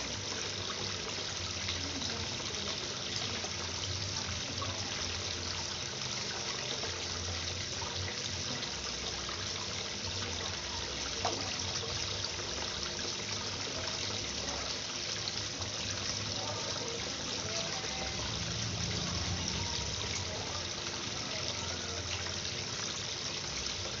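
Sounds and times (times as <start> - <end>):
water trickling into a pond: 0.0 - 24.0.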